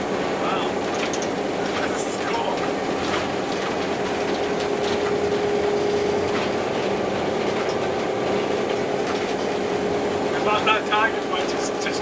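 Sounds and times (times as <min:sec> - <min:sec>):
diesel locomotive engine drone: 0:00.0 - 0:12.0
wheels clicking on track: 0:00.0 - 0:12.0.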